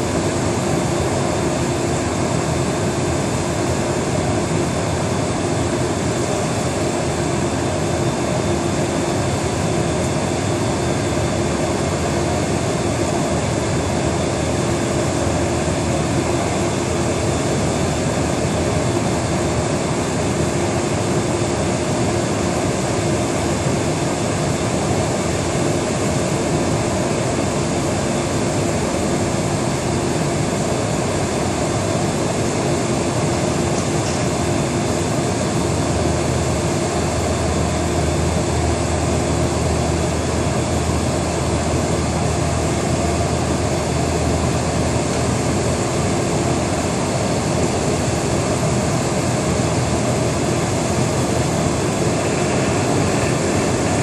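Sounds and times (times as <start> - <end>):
machine drone with hum and hiss: 0.0 - 54.0.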